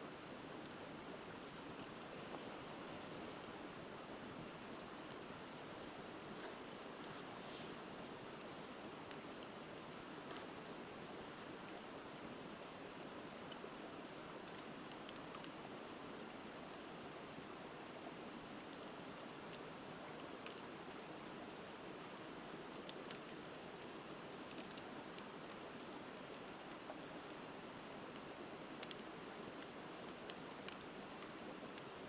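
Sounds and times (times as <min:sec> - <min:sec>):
wood fire crackling and popping: 0:06.3 - 0:32.0.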